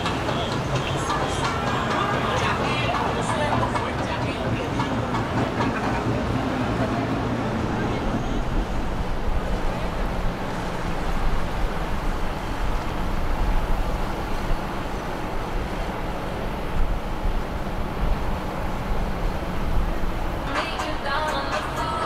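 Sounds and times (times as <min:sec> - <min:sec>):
low rumble of boat engines: 0:00.0 - 0:22.0
water noise: 0:00.0 - 0:22.0.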